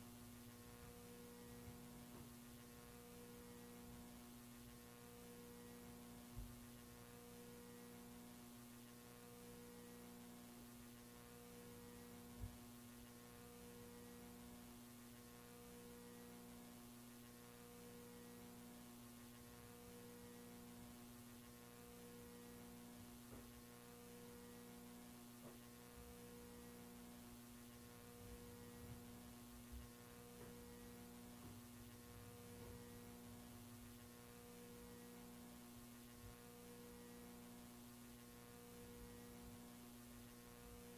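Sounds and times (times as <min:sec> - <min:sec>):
faint electrical hum: 0:00.0 - 0:40.9.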